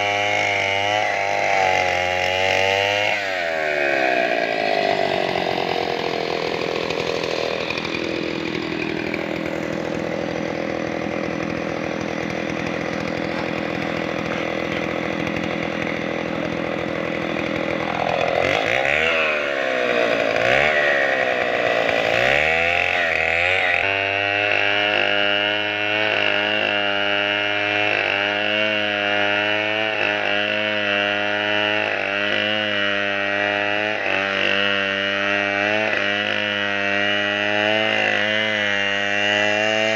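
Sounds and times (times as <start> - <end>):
chainsaw engine running and revving: 0.0 - 39.9.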